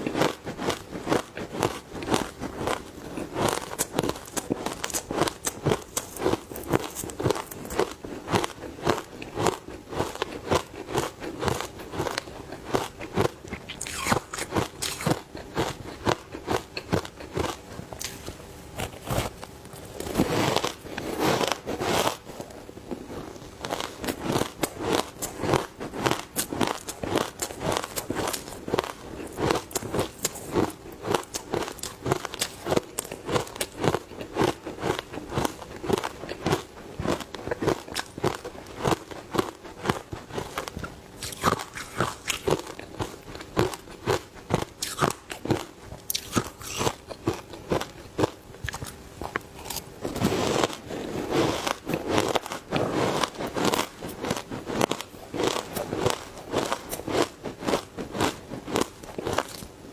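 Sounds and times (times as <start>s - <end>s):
ice being chewed crunching: 0.0s - 59.7s.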